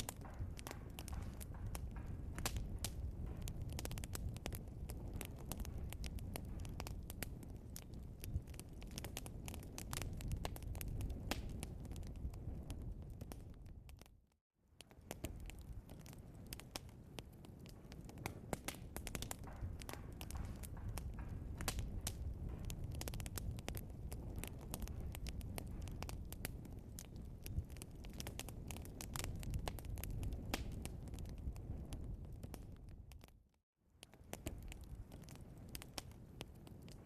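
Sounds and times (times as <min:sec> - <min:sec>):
log fire crackling and popping: 0:00.0 - 0:37.0
low rumble of flames: 0:00.0 - 0:37.0.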